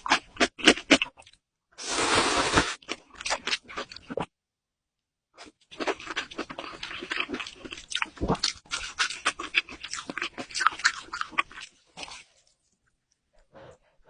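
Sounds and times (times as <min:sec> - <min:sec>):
person chewing wet food: 0:00.0 - 0:01.4, 0:02.8 - 0:04.3, 0:05.4 - 0:14.0.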